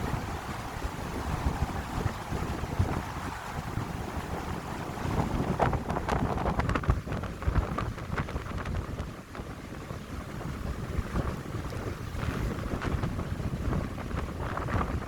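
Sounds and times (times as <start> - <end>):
wind buffeting microphone: 0.0 - 15.0
wind gusting through pine trees: 0.0 - 15.0.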